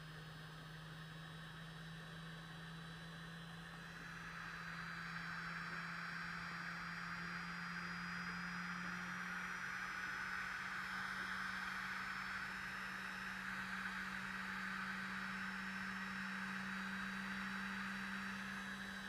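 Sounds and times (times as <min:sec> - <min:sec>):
generator humming and whirring: 0:00.0 - 0:19.0.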